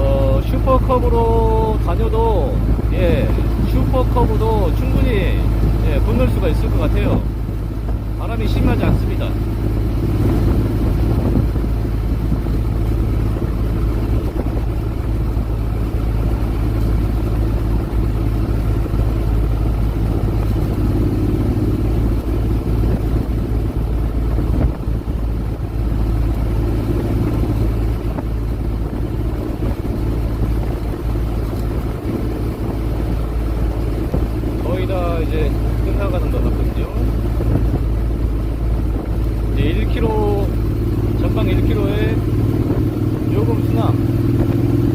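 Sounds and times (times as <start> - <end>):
scooter engine cruising: 0.0 - 44.9.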